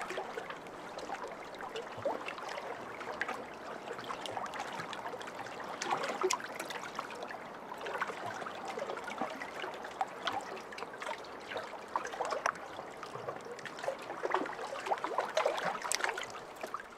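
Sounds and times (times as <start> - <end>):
pond water lapping: 0.0 - 16.9
small splashes and drips: 0.0 - 16.9.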